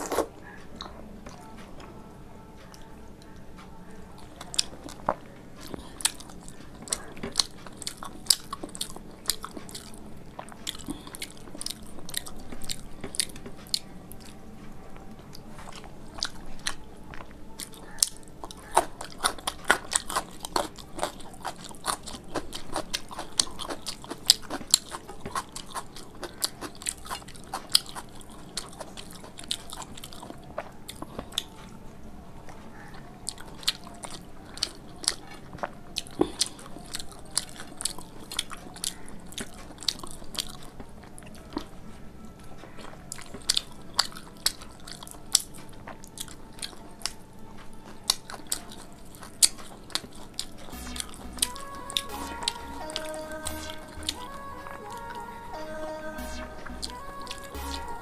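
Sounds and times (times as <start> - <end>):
person chewing crunchy food: 0.0 - 1.5, 4.2 - 14.4, 15.3 - 31.6, 32.8 - 41.8, 42.6 - 55.2.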